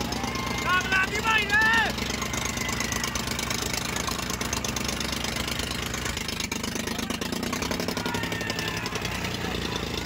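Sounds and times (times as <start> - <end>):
diesel tractor engine under load: 0.0 - 10.0.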